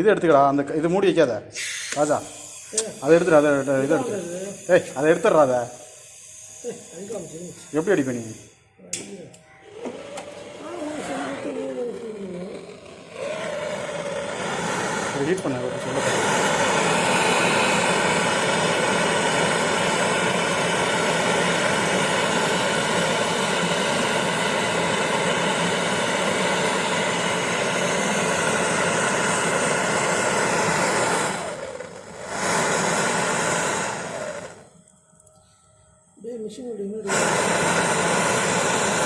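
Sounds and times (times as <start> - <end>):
torch flame hissing: 1.6 - 8.5, 10.2 - 34.7, 37.0 - 39.0.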